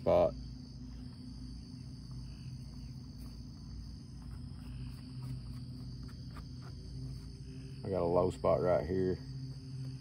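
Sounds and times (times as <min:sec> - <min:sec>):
crickets chirping: 0:00.0 - 0:10.0
low steady hum: 0:00.0 - 0:10.0.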